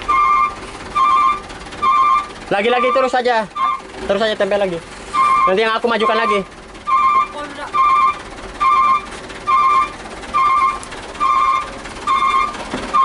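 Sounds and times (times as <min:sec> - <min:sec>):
truck reverse beeper: 0:00.0 - 0:04.0, 0:05.1 - 0:13.0.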